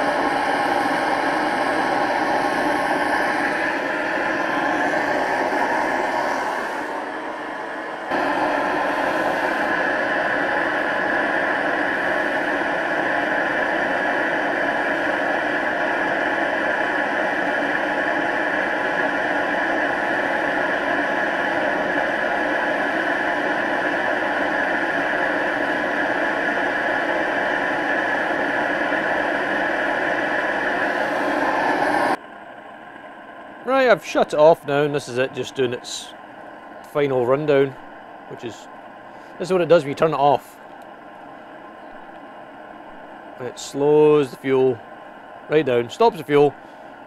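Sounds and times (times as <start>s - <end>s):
heater burner and blower rushing: 0.0s - 47.0s.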